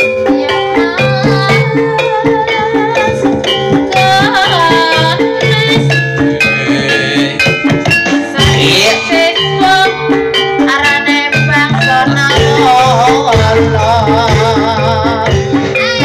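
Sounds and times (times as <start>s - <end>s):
drums and metallophones playing: 0.0s - 16.0s
melody with vibrato: 0.0s - 16.0s.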